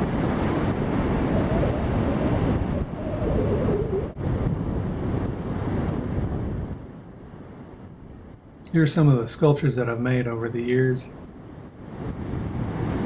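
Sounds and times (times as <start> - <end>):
ocean surf: 0.0 - 13.0
wind buffeting microphone: 0.0 - 13.0.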